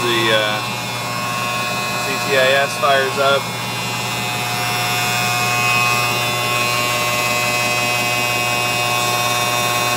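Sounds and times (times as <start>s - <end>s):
high whine: 0.0s - 9.9s.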